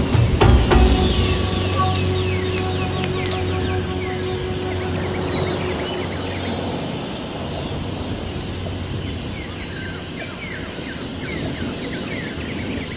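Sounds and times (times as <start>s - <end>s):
steady hiss: 0.0s - 11.5s
high steady whine: 0.0s - 11.6s
birds chirping: 0.0s - 12.9s.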